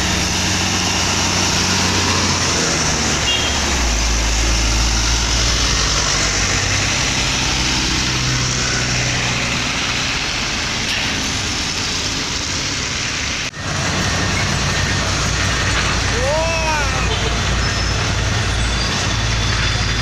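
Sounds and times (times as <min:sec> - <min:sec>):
dump trucks driving past: 0:00.0 - 0:20.0
tyre and road noise: 0:00.0 - 0:20.0.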